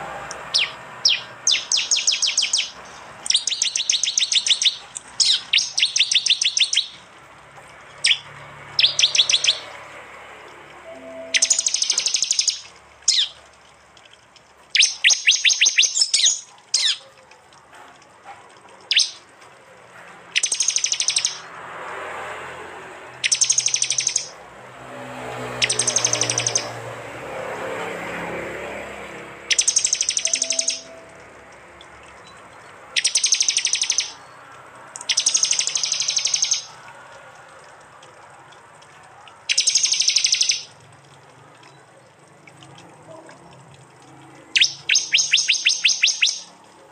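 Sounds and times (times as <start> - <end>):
bird clicking calls: 0.2 - 7.1, 7.8 - 9.8, 10.5 - 19.3, 20.2 - 21.5, 23.2 - 24.4, 25.6 - 26.8, 29.5 - 46.8.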